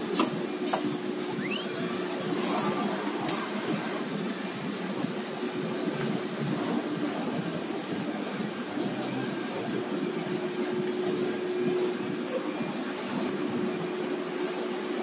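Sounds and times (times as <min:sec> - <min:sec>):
cnc router machine hum: 0:00.0 - 0:15.0.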